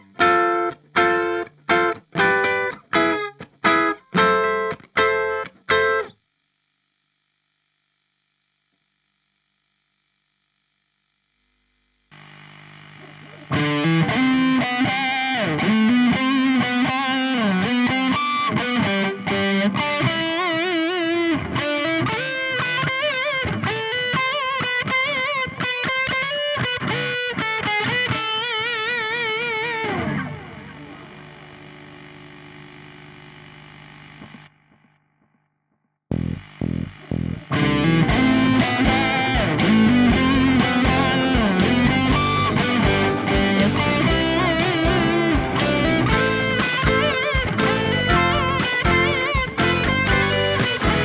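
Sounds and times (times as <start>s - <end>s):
distorted electric guitar riff: 0.0s - 6.2s, 10.6s - 34.5s, 36.1s - 51.0s.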